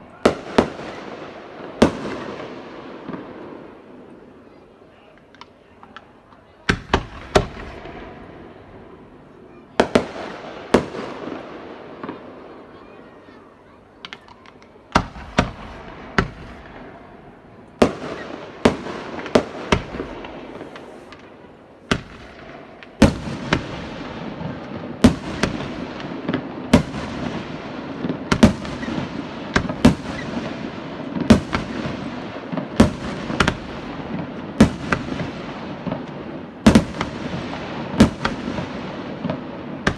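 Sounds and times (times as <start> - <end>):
fireworks bangs: 0.0 - 39.9
fireworks crackling rumble: 0.0 - 39.9.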